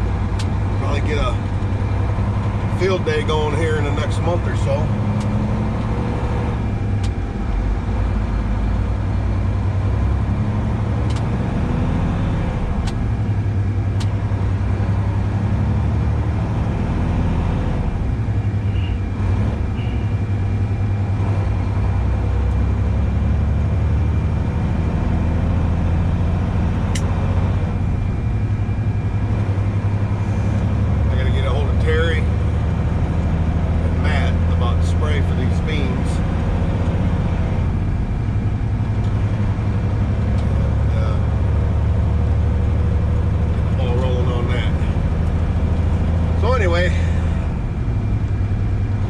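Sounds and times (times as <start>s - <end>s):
diesel truck engine drone: 0.0s - 49.0s.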